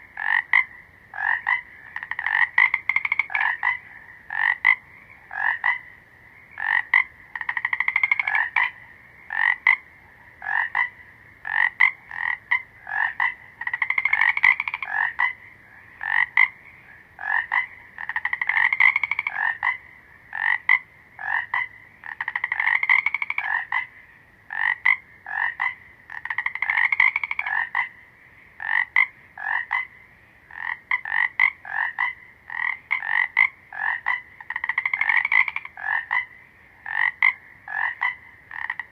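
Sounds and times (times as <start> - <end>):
frogs croaking: 0.0 - 38.9
high chorus of frog calls: 0.0 - 38.9.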